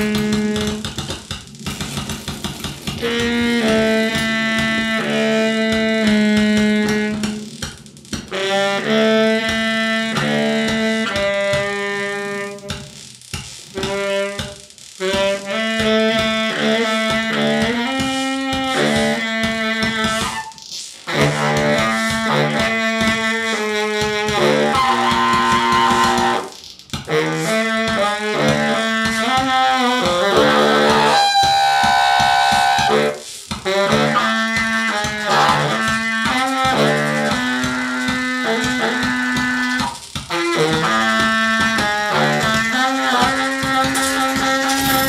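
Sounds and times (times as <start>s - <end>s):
baritone saxophone playing low notes: 0.0s - 1.2s, 2.8s - 7.6s, 8.2s - 13.1s, 13.7s - 45.0s.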